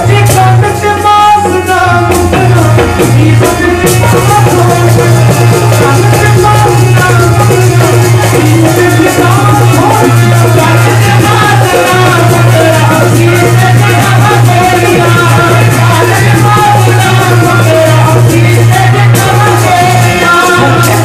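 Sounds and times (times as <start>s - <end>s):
harmonium: 0.0s - 21.0s
man singing devotional song: 0.0s - 21.0s
rattling percussion: 0.0s - 21.0s.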